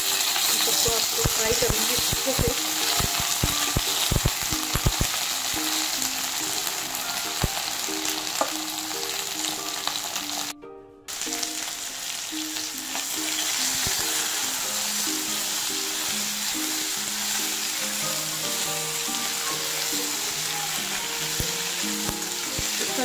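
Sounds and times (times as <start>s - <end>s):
oil sizzling: 0.0s - 23.0s.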